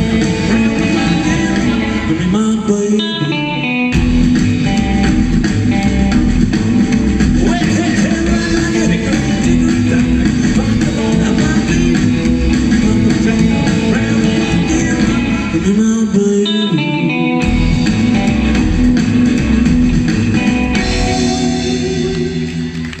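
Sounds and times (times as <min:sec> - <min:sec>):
rockabilly band with guitar: 0:00.0 - 0:23.0.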